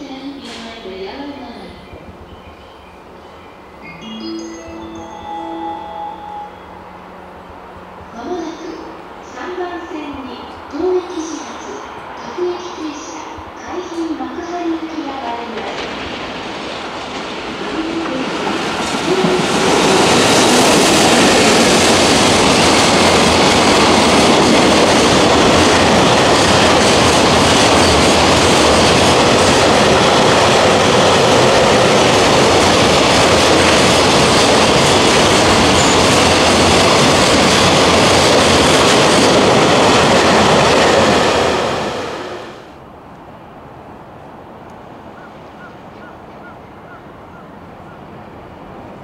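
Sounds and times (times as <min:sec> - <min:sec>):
freight train wheels on rail: 0:00.0 - 0:49.0.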